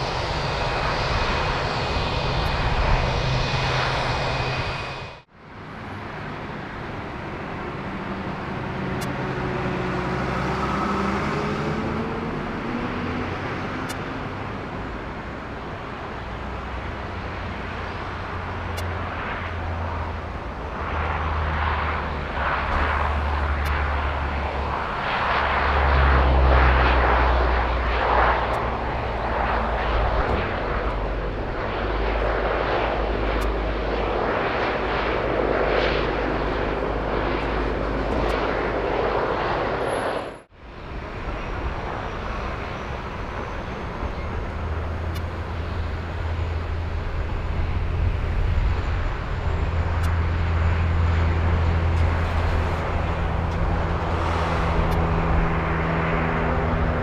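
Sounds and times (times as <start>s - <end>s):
airliner engines rumbling: 0.0s - 57.0s.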